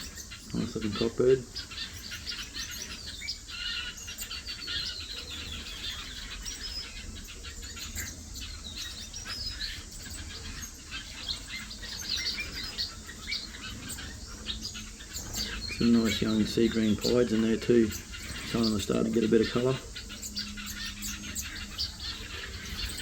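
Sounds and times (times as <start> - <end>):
finches chirping: 0.0 - 23.0.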